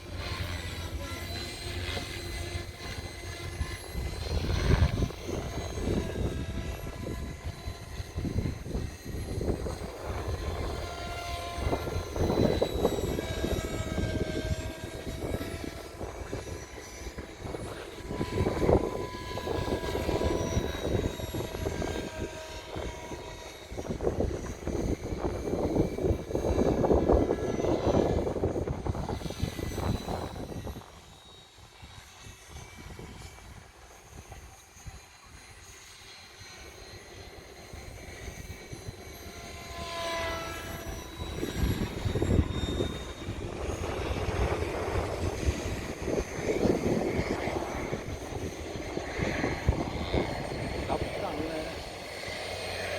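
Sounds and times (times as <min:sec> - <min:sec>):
model helicopter rotor whine: 0:00.0 - 0:52.9.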